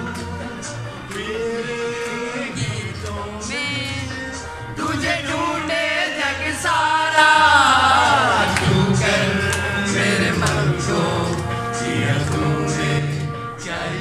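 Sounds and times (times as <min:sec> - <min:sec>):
amplified backing music: 0:00.0 - 0:14.0
man singing into a microphone: 0:00.0 - 0:14.0.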